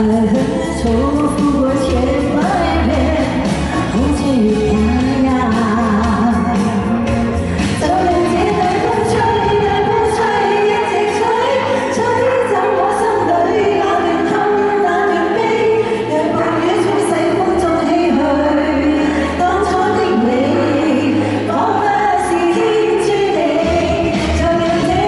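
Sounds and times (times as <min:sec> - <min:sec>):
pop song with vocals: 0:00.0 - 0:25.0.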